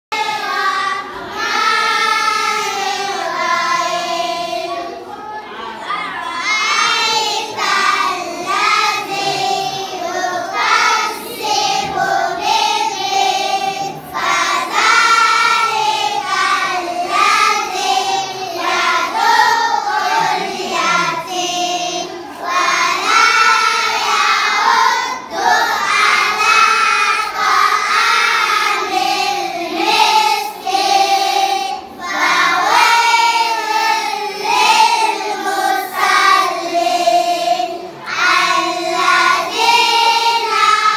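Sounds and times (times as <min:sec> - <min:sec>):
children singing together: 0:00.1 - 0:40.9.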